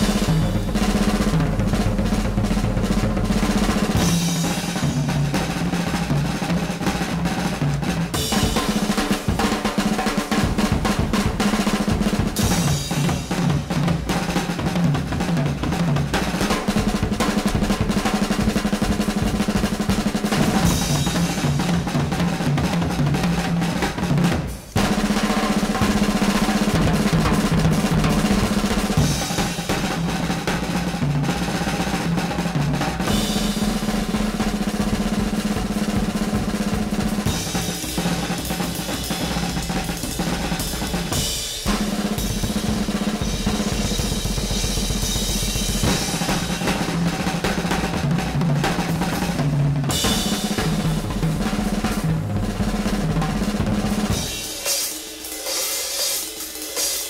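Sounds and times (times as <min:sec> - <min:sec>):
music with heavy drumming: 0:00.0 - 0:57.0.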